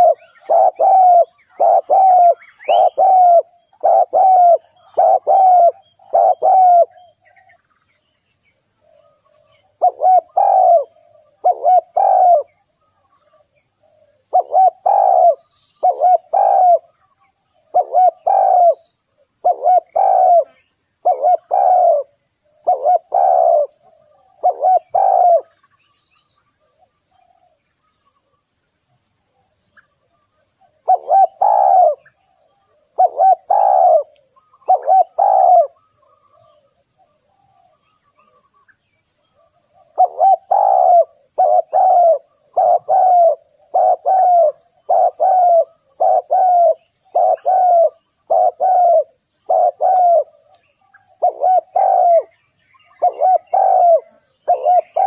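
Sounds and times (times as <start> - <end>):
dove cooing: 0.0 - 7.6, 8.8 - 12.6, 13.3 - 17.0, 17.6 - 25.6, 30.7 - 38.4, 39.4 - 50.5, 51.1 - 55.0.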